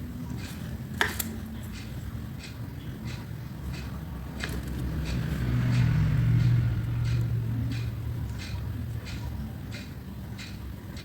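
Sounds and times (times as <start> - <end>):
light ticks of crafting tools: 0.3 - 11.0
low background rumble: 1.5 - 11.0.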